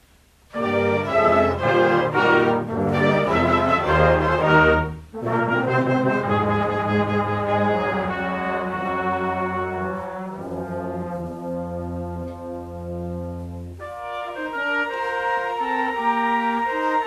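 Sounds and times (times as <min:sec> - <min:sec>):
band brass chords: 0:00.5 - 0:17.0.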